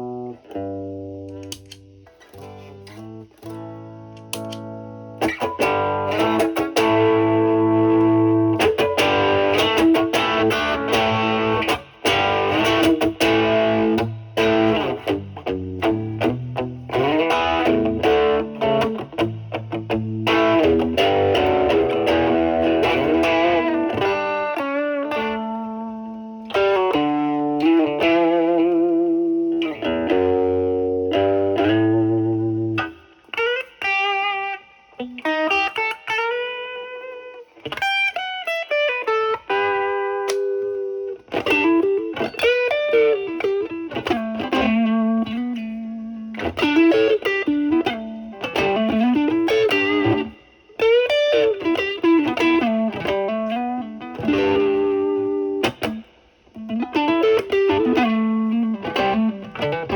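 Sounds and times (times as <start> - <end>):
overdriven electric guitar playing blues: 0.0 - 59.9.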